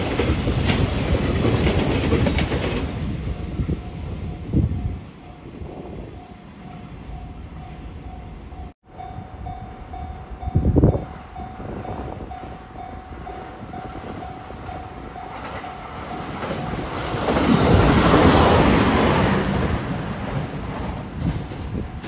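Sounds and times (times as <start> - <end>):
electric train passing: 0.0 - 22.0.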